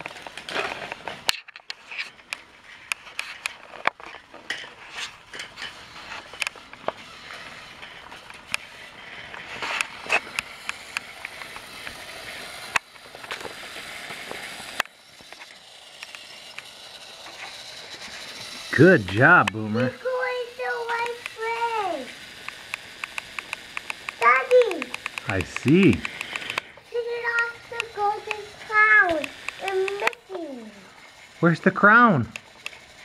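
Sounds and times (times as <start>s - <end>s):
plastic toy train pieces clattering: 0.0s - 33.0s
toy train motor whirring: 0.0s - 33.0s.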